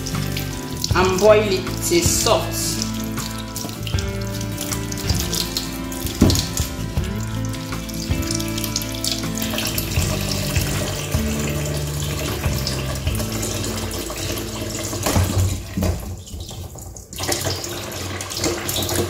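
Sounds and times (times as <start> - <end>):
hands washing vegetables in water: 0.0 - 19.0
tap running into sink: 0.0 - 19.0.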